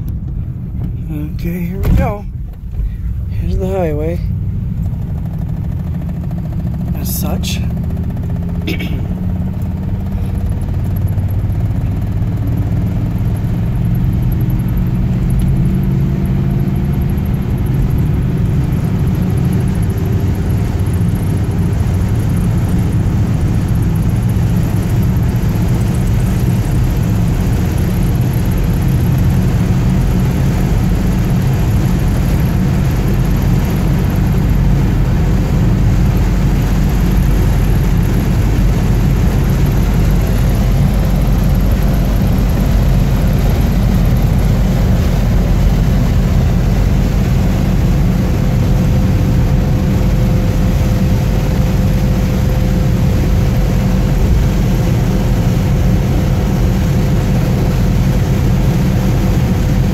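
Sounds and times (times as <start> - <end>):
car engine and road rumble: 0.0 - 59.9
faint rising whine: 9.2 - 59.9.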